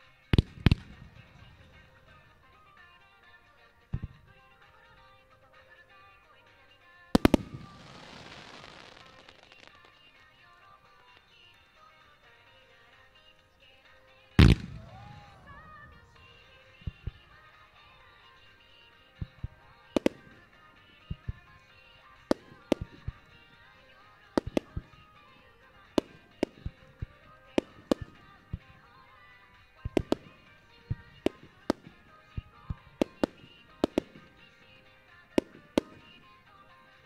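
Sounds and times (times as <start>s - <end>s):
fireworks bursting with sharp bangs: 0.0s - 37.0s
music: 0.0s - 37.0s.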